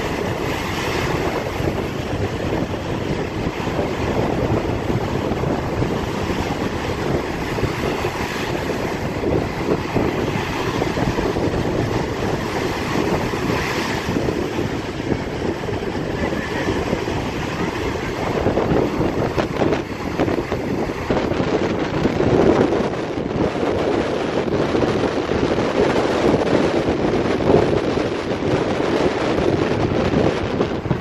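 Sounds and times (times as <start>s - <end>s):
waves crashing: 0.0s - 31.0s
wind buffeting microphone: 0.0s - 31.0s.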